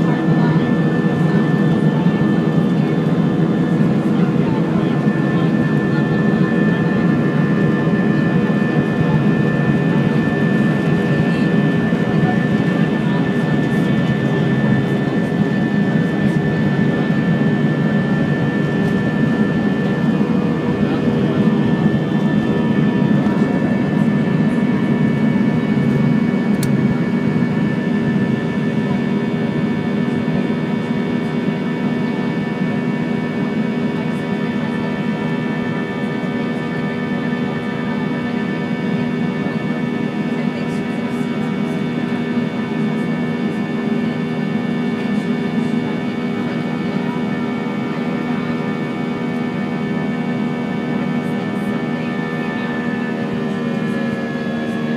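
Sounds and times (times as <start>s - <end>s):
jet engines rumbling with whine: 0.0s - 54.9s.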